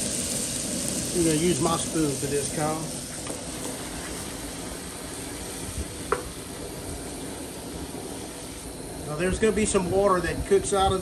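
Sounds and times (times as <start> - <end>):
shrimp sizzling in a pan: 0.0 - 9.9.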